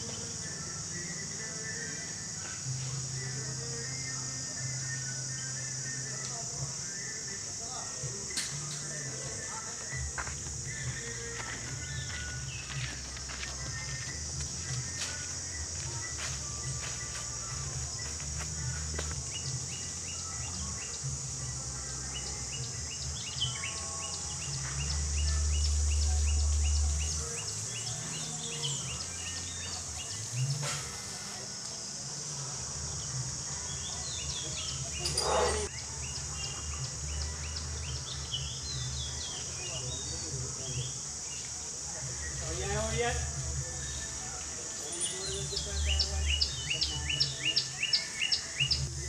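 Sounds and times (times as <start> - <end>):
birds chirping: 0.0 - 49.0
high insect drone: 0.0 - 49.0.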